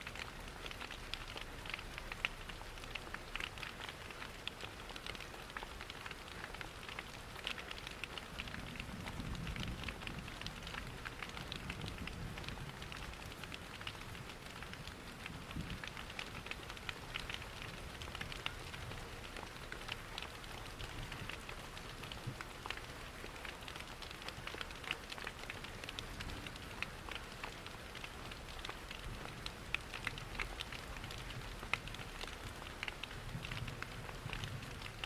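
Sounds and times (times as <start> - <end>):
steady rain: 0.0 - 35.0
wood fire crackling: 0.0 - 35.0.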